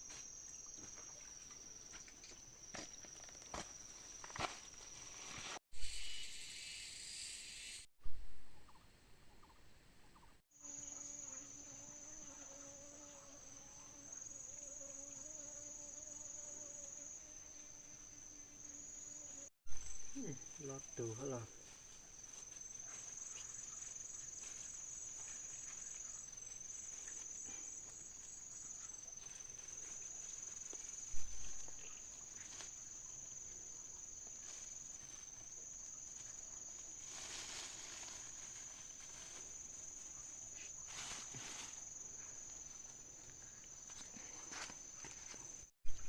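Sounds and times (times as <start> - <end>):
insects trilling: 0.0 - 7.9, 10.6 - 46.0.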